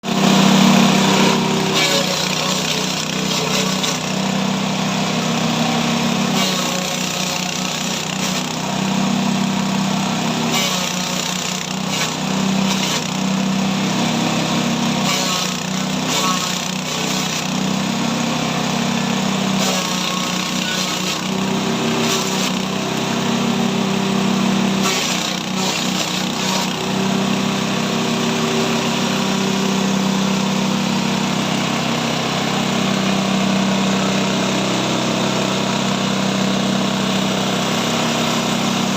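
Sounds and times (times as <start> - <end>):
forage chopper machine humming: 0.0 - 38.9
bursts of rough machine noise: 0.1 - 38.9.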